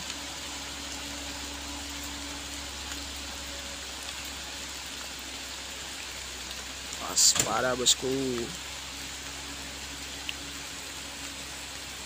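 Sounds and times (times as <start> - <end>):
distant truck engine drone: 0.0 - 12.0
rain hissing: 0.0 - 12.0.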